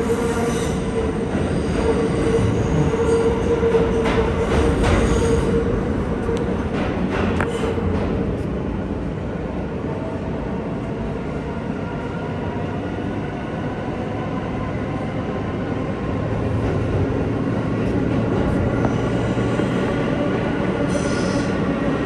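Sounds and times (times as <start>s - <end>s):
subway train wheels rumbling: 0.0s - 22.0s.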